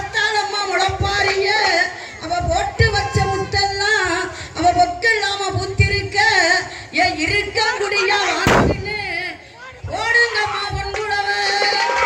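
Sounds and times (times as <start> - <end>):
women singing folk song: 0.0 - 12.0.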